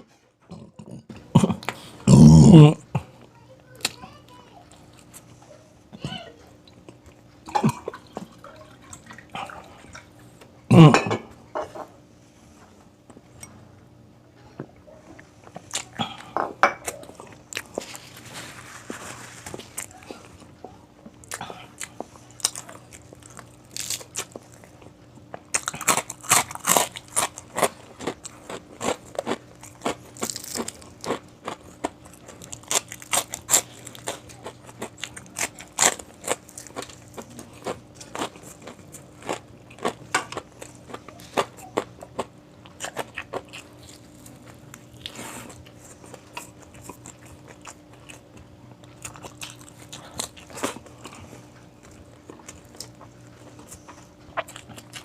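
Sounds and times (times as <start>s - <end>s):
crunching and chewing crispy food: 0.5s - 10.9s, 15.1s - 55.0s.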